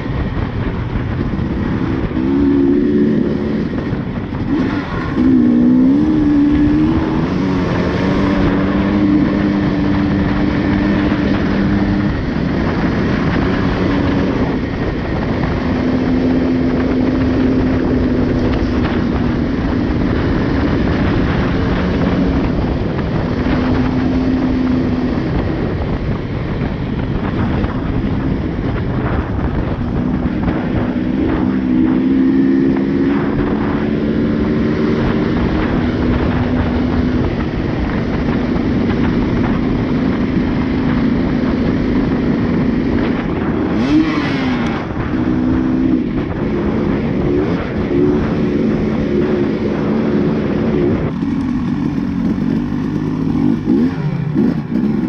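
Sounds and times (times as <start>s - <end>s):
constant rushing noise: 0.0s - 55.0s
motorcycle engine revving: 0.0s - 55.0s.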